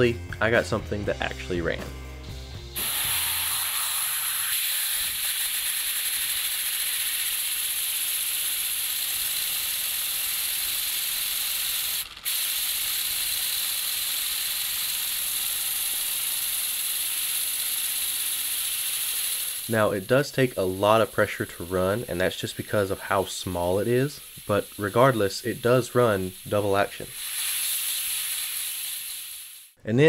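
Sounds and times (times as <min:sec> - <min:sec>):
compressed air hissing: 0:02.8 - 0:29.8.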